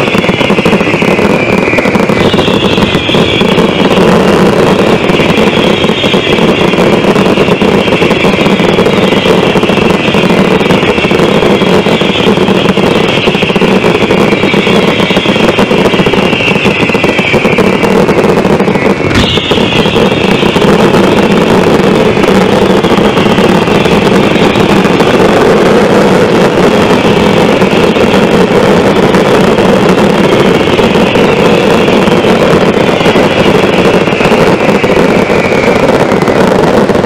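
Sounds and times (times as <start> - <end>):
fireworks roar: 0.0 - 37.0
sharp firework crack: 0.0 - 37.0.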